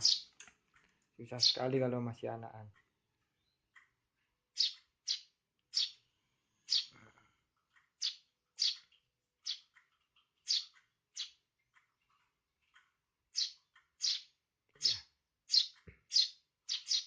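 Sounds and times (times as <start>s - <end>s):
sparrows chirping: 0.0s - 0.4s, 1.2s - 1.9s, 3.2s - 7.0s, 7.7s - 17.0s.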